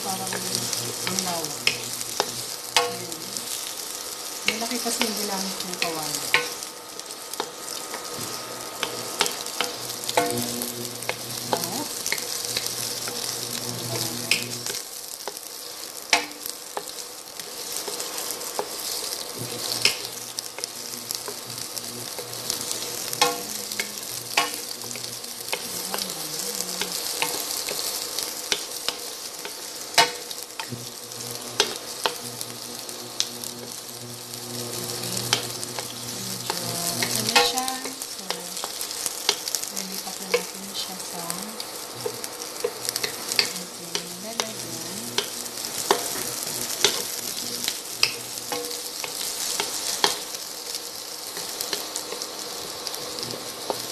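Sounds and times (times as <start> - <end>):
vegetables sizzling in oil: 0.0 - 53.9.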